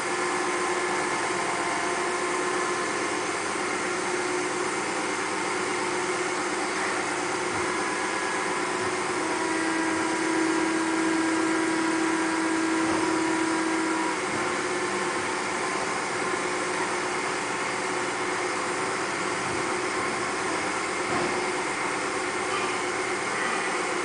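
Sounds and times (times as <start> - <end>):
constant mechanical noise: 0.0 - 24.0
hydraulic pump whining hum: 0.0 - 24.0.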